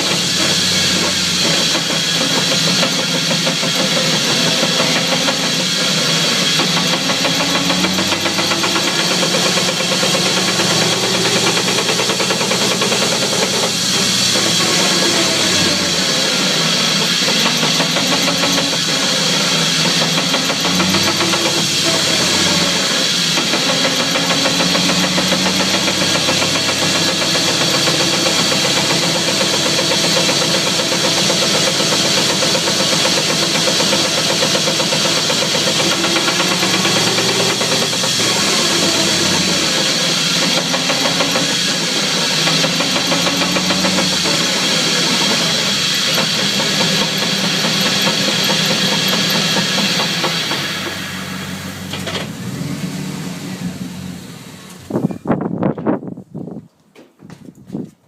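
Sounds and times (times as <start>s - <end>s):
pickup engine running: 0.0s - 55.7s.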